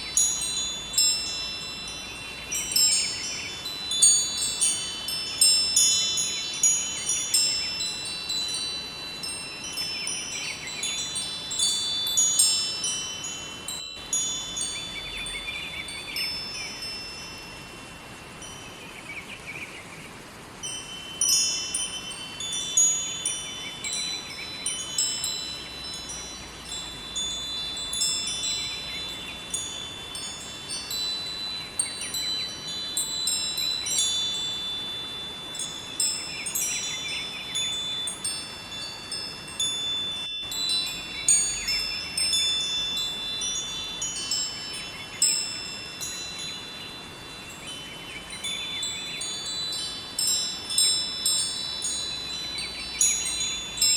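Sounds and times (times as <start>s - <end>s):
river water rushing: 0.0s - 53.9s
wind chimes tinkling: 0.0s - 53.9s.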